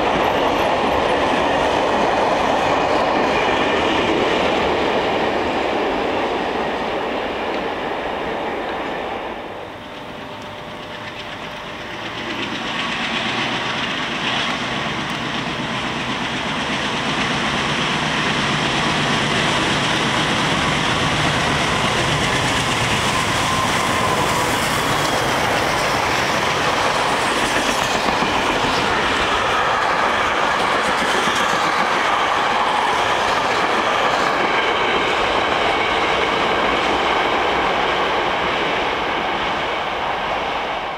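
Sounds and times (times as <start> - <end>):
freight train passing at speed: 0.0 - 40.9.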